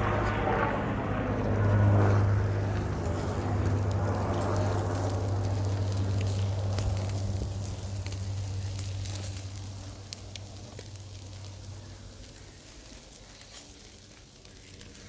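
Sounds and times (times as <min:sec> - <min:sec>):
steady low hum: 0:00.0 - 0:15.0
potatoes crackling in a pan: 0:02.6 - 0:15.0.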